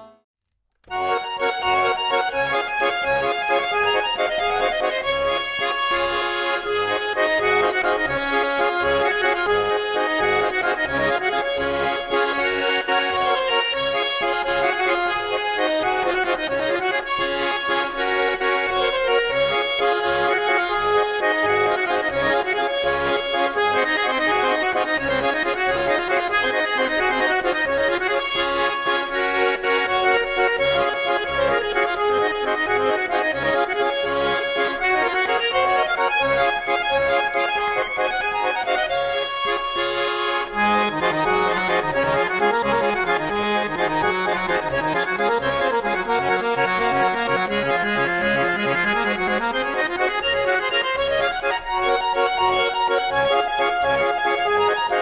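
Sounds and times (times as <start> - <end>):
accordion playing a tune: 0.0 - 55.0.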